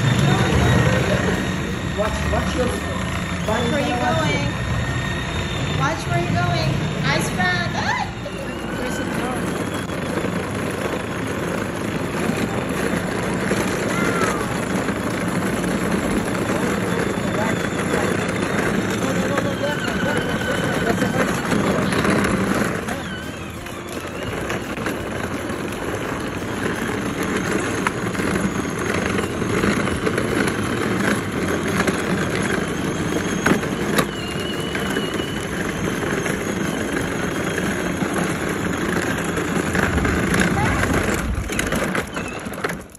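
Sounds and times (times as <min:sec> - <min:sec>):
electric motor whirring: 0:00.0 - 0:42.4
plastic wheels rolling on asphalt: 0:00.0 - 0:42.9.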